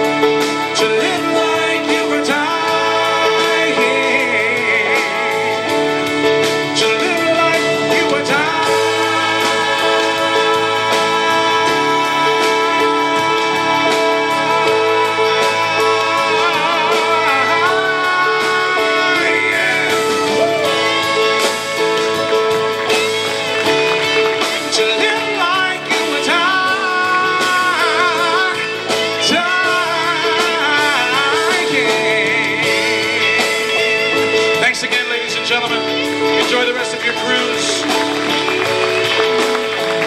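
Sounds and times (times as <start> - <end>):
country music instrumental: 0.0 - 40.0
lead melody with heavy vibrato: 0.0 - 40.0.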